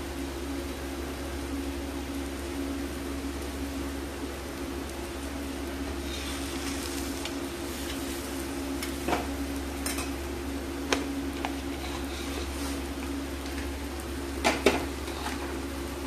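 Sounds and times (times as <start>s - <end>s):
pancake sizzling in a pan: 1.5s - 16.0s.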